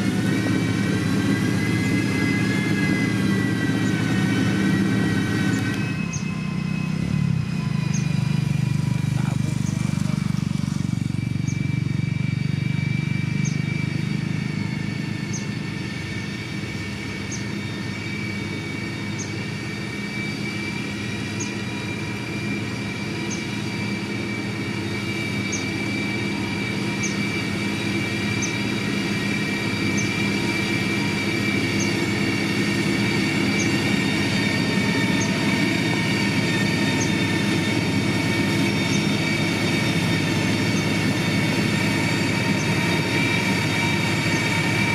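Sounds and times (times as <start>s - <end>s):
diesel engine running: 0.0s - 44.9s
high steady whine: 0.0s - 44.9s.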